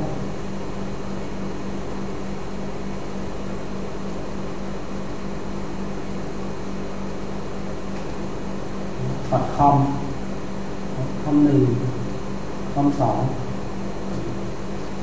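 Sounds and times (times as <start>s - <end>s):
electrical hum and hiss: 0.0s - 15.0s
thin high whine: 0.0s - 15.0s.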